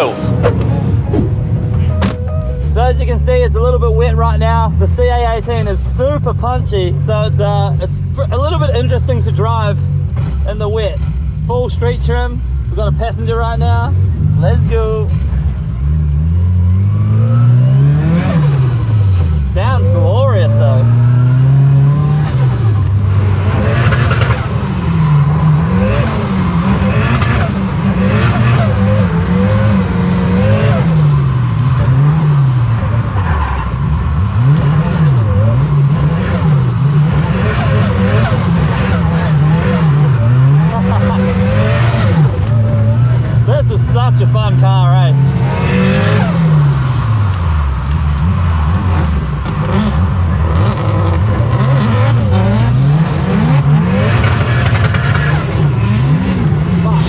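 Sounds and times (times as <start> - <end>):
car engine revving hard: 0.0 - 2.0, 12.1 - 57.0.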